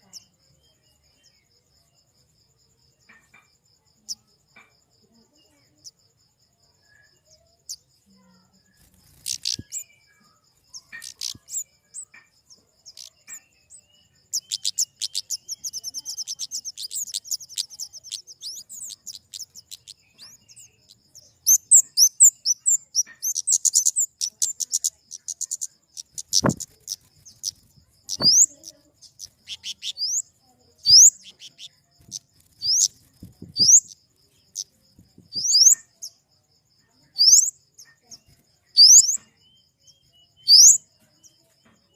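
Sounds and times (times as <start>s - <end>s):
birds chirping and twittering: 0.0s - 41.9s.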